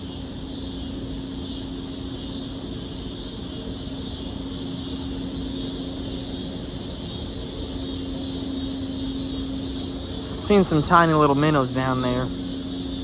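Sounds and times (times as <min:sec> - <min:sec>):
insect chorus: 0:00.0 - 0:13.0
steady low hum: 0:00.0 - 0:13.0.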